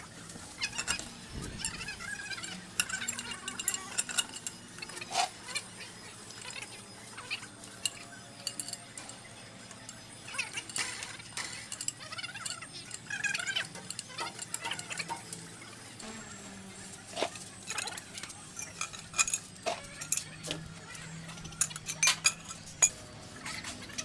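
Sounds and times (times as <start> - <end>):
metal tools clinking: 0.3 - 24.0.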